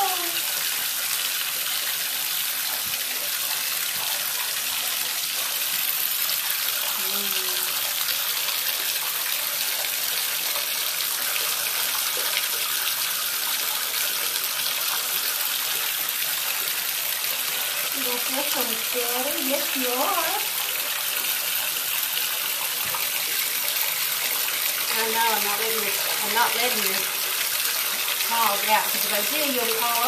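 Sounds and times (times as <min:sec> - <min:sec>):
bathtub tap running: 0:00.0 - 0:30.0.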